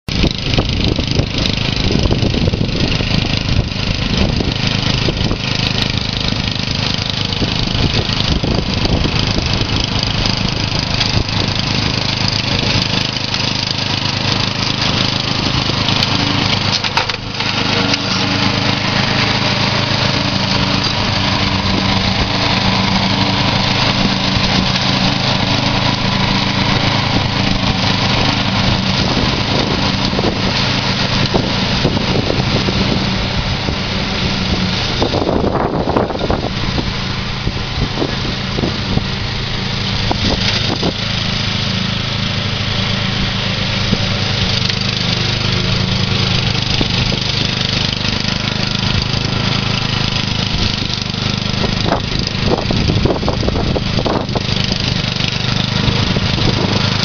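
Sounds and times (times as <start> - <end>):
ride-on mower engine running: 0.0 - 57.0.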